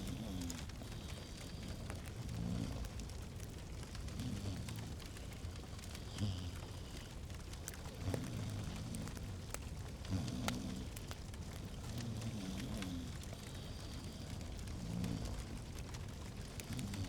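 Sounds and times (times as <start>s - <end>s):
log fire crackling and popping: 0.0s - 17.0s
low steady rumble: 0.0s - 17.0s.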